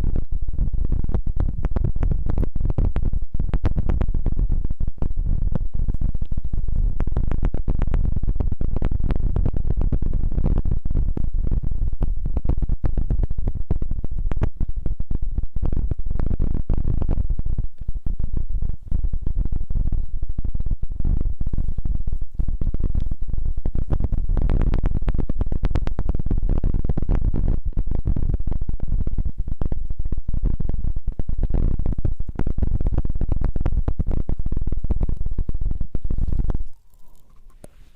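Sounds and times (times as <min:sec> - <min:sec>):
rubbing and scratching on microphone: 0:00.0 - 0:37.9.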